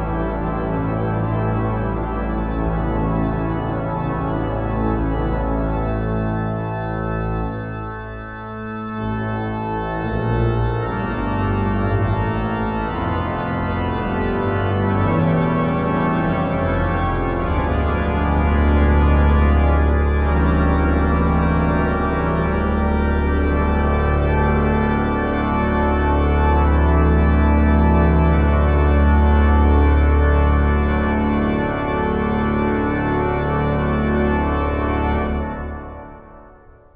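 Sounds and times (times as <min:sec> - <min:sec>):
organ chords: 0:00.0 - 0:36.9.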